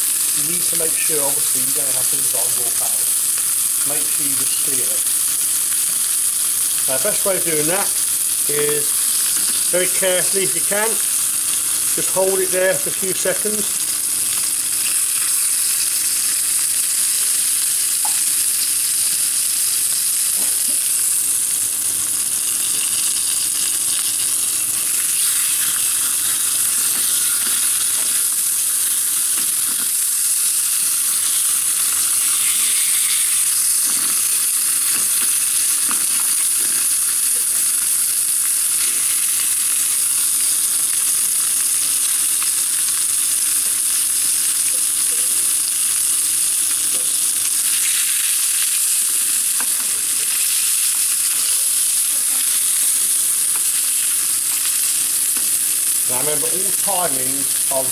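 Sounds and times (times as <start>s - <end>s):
steaks sizzling in a frying pan: 0.0s - 57.9s.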